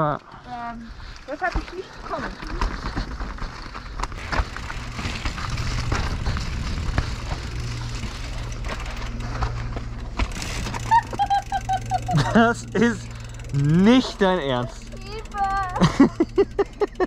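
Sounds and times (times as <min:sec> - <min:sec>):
bike rattling: 0:00.0 - 0:17.0
bike tyres rolling on dirt: 0:00.0 - 0:17.0.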